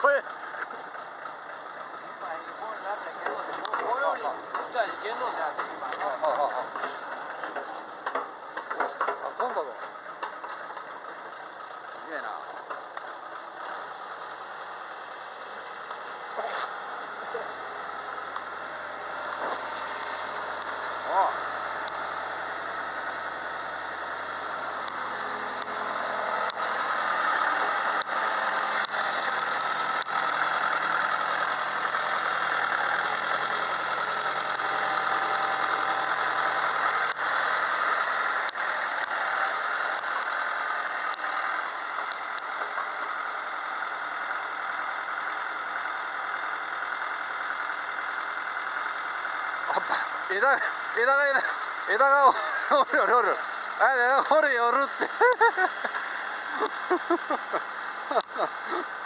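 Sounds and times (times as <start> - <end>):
excavator diesel engine under load: 0.0 - 59.0.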